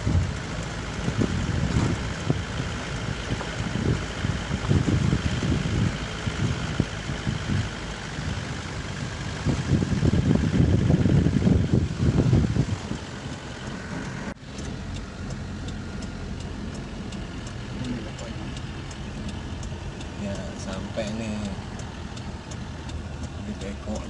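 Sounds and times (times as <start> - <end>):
steady engine hum: 0.0 - 24.0
vehicle engine rumbling: 0.0 - 24.0.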